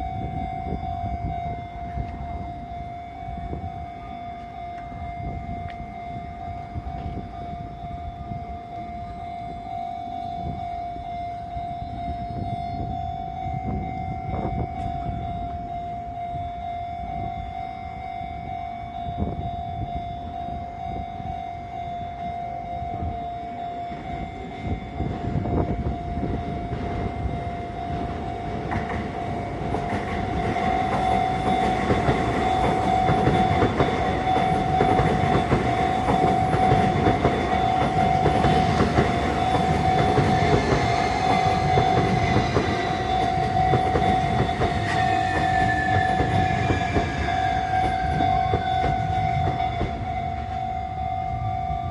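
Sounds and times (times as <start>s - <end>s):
downward gliding tone: 0.0s - 51.9s
level crossing alarm ringing: 0.0s - 51.9s
train rumble and clatter: 0.0s - 51.9s.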